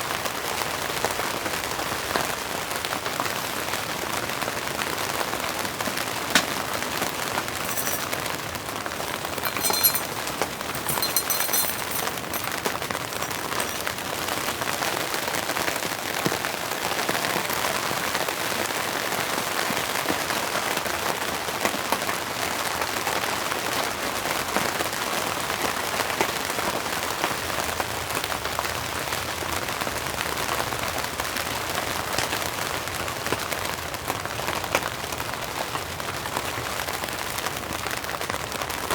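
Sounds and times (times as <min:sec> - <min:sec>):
rain falling: 0:00.0 - 0:11.0, 0:11.9 - 0:38.9.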